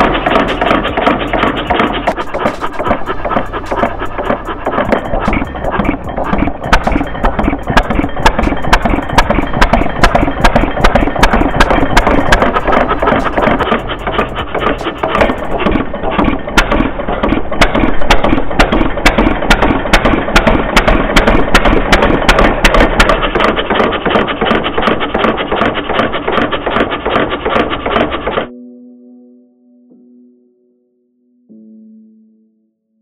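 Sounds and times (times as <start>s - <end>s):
model engine clattering: 0.0s - 28.5s.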